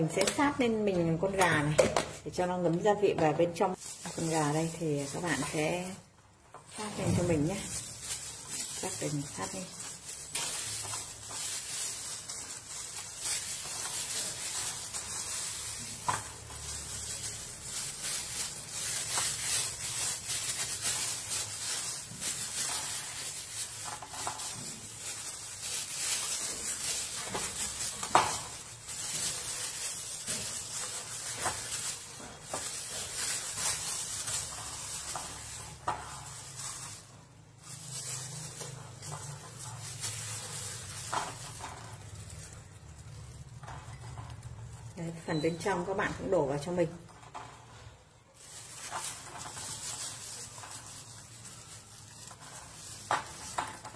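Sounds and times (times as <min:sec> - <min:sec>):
gloves rustling on chicken skin: 0:02.3 - 0:47.0, 0:47.7 - 0:53.9.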